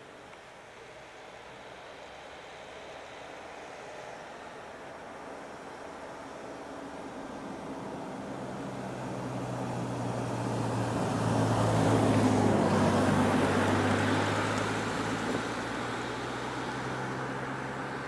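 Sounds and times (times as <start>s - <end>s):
road vehicle passing: 2.4s - 18.0s.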